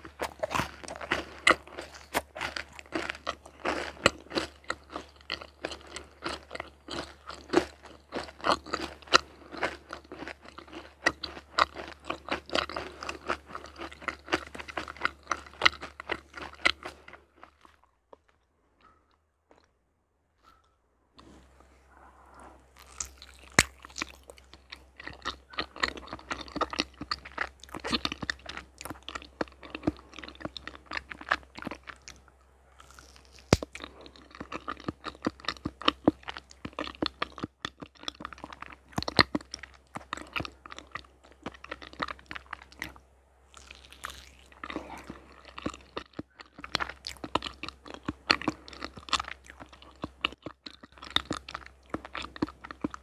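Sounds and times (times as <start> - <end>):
wet sticky chewing: 0.0 - 19.8, 22.2 - 53.0.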